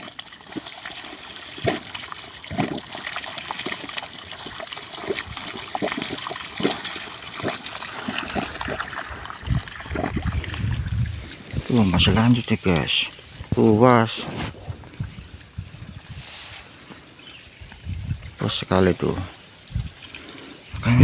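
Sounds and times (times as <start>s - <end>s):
water splashing: 0.0s - 19.0s
water trickling and gurgling: 0.0s - 21.0s.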